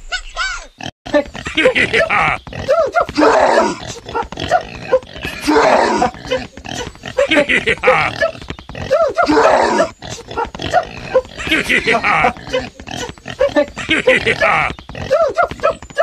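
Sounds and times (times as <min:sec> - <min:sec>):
animal grunting: 0:00.8 - 0:16.0.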